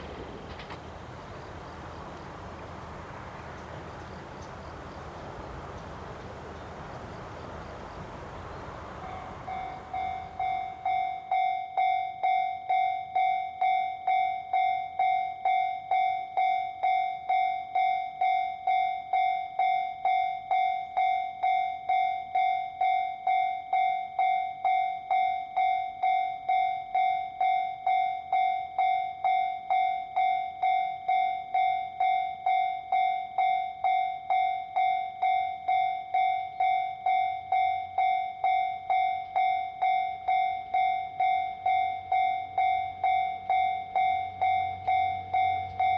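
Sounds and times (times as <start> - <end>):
railroad crossing bell ringing: 0.0 - 45.9.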